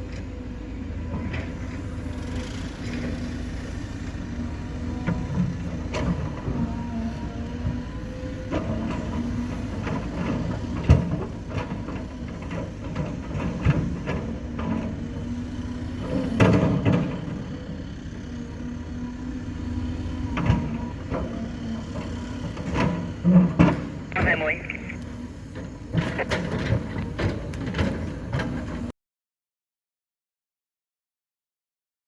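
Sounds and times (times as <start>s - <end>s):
diesel machinery running: 0.0s - 28.9s.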